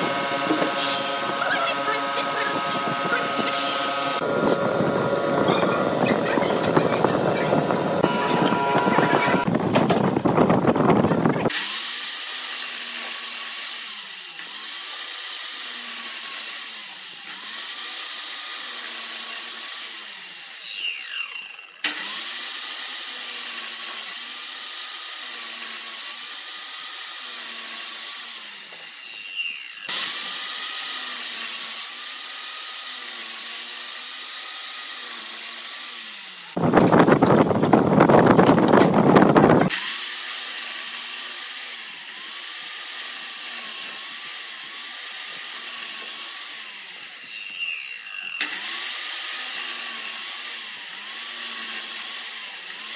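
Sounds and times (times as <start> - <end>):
miter saw cutting wood: 0.0 - 9.5, 11.4 - 52.9.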